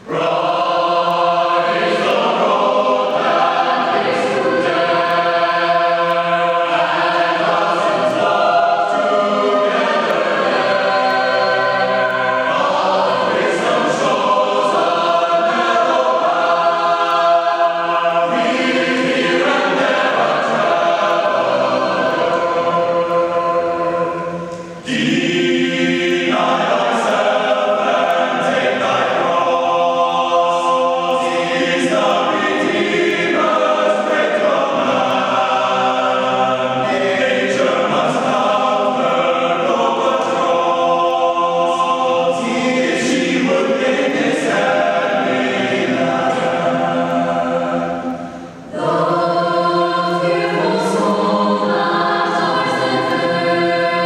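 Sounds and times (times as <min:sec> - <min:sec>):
choir singing in parts: 0:00.0 - 0:54.0.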